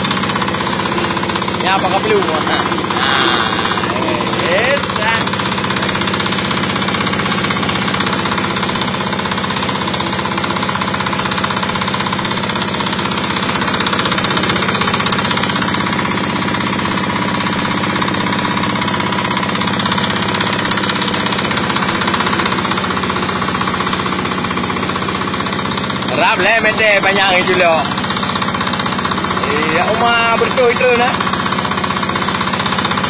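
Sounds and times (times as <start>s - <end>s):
continuous grinding noise: 0.0s - 33.0s
grinding machine engine pulsing: 0.0s - 33.0s.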